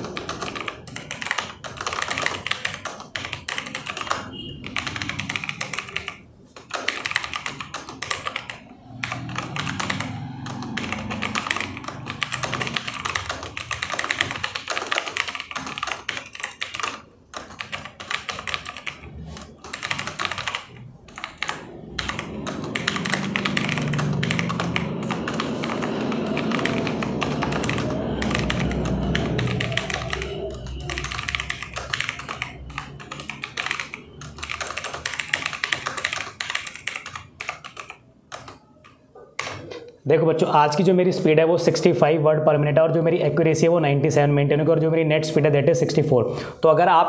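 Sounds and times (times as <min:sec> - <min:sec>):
fast typing on keyboard: 0:00.0 - 0:39.7.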